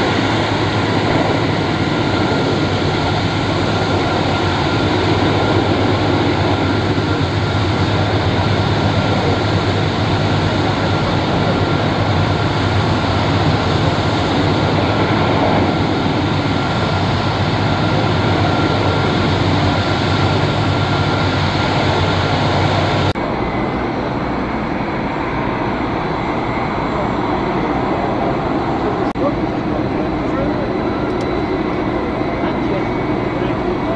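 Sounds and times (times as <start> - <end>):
jet engines rumbling and whining: 0.0 - 33.9.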